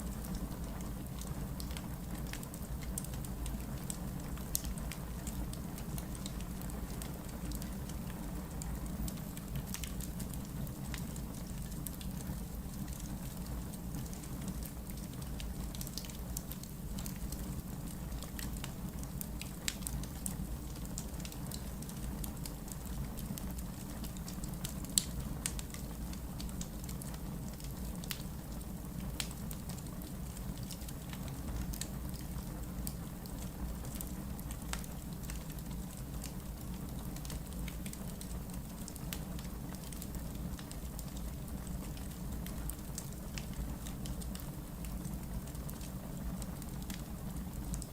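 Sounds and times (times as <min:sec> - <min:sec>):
fire crackling and popping: 0:00.0 - 0:47.9.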